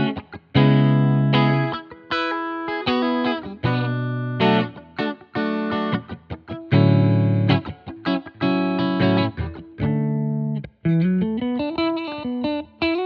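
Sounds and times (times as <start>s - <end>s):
clean electric guitar chords: 0.0s - 13.0s.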